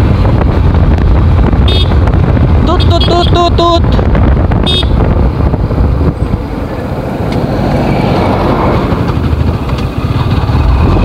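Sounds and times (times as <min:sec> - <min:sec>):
motorcycle engine running: 0:00.0 - 0:07.4, 0:08.1 - 0:11.0
wind and road noise: 0:00.0 - 0:11.0.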